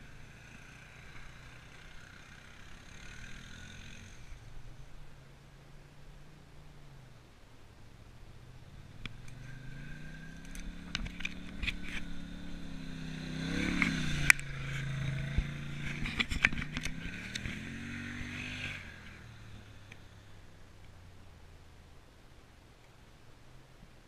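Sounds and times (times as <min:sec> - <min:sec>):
quad bike engines passing: 0:00.0 - 0:23.9.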